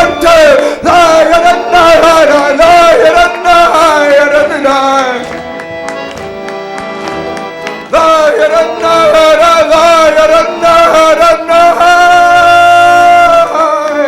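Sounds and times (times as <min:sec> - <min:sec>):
accordion chords: 0:00.0 - 0:14.0.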